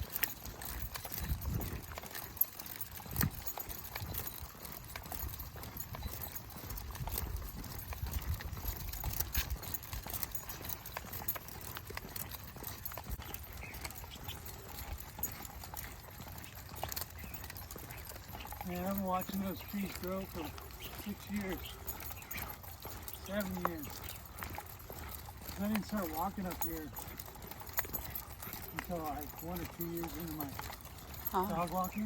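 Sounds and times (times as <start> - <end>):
footsteps on dirt trail: 0.0 - 32.0.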